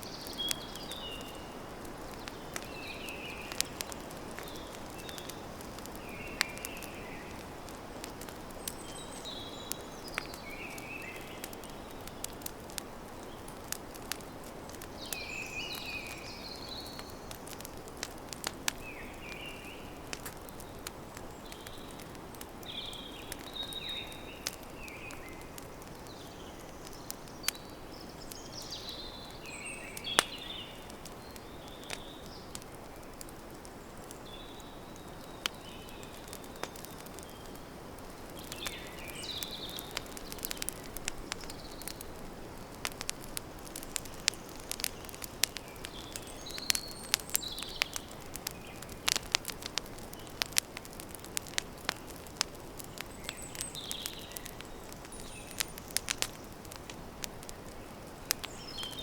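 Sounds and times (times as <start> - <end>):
birds chirping: 0.0 - 12.4, 13.2 - 17.7, 18.4 - 59.0
campfire crackling: 0.0 - 59.0.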